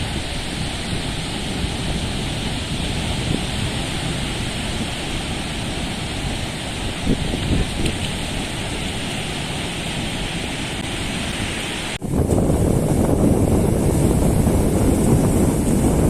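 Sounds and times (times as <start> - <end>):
sea surf washing: 0.0 - 16.0
wind buffeting microphone: 0.0 - 16.0.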